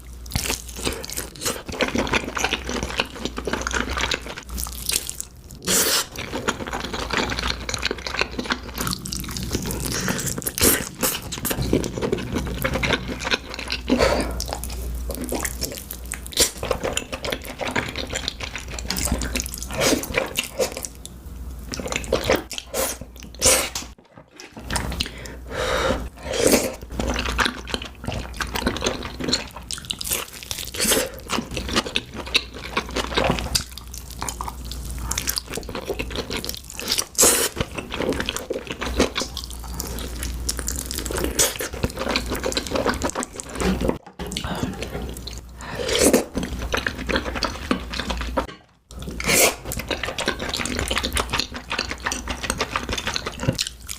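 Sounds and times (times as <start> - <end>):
wet chewing and slurping: 0.0 - 21.0, 26.0 - 53.9.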